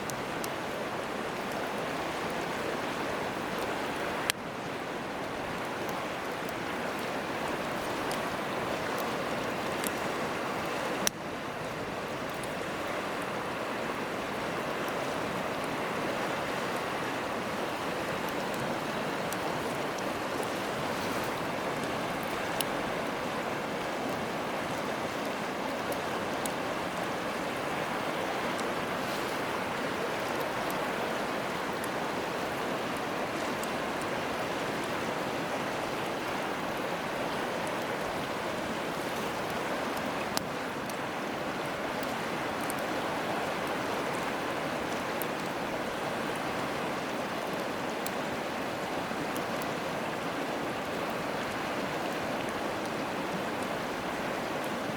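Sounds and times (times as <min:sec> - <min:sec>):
campfire crackling: 0:00.0 - 0:54.9
river rushing: 0:00.0 - 0:54.9.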